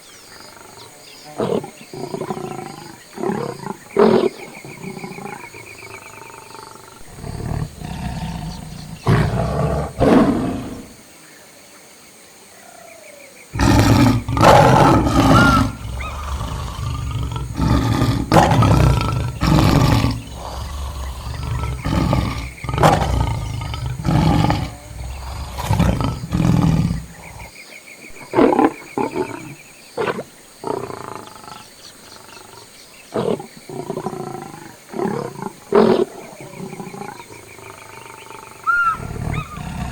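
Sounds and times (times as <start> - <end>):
lions growling and roaring: 0.4 - 11.0, 13.6 - 27.5, 28.1 - 39.9.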